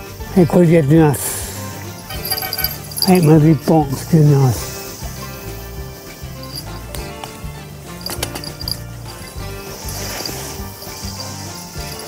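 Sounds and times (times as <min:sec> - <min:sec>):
music with sustained low notes: 0:00.0 - 0:12.0.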